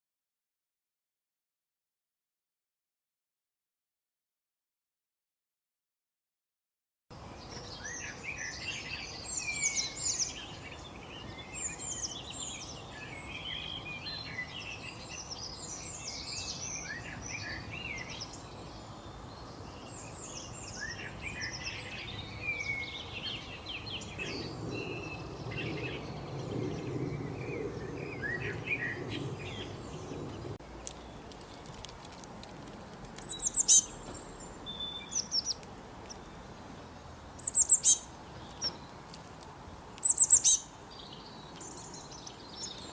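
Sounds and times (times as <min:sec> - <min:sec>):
steady background hiss: 0:07.2 - 0:26.4, 0:27.2 - 0:42.9
songbirds chirping and singing: 0:07.2 - 0:32.4, 0:33.1 - 0:42.9.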